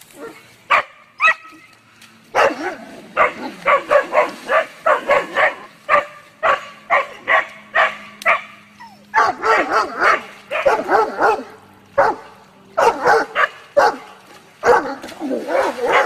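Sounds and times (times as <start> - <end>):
dog barking: 0.7 - 1.5, 2.4 - 8.6, 9.2 - 12.2, 12.8 - 16.0.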